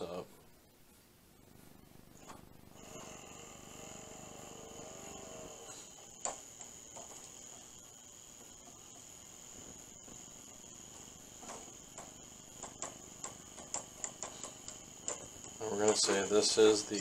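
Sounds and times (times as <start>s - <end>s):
blind motor whining: 2.2s - 17.0s.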